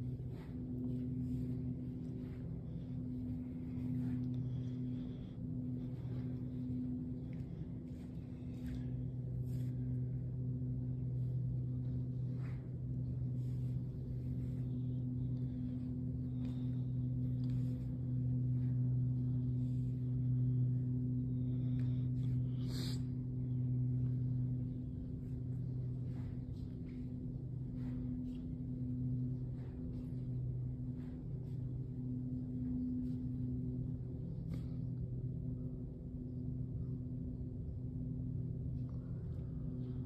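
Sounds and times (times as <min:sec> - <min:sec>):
low droning hum: 0:00.0 - 0:40.0.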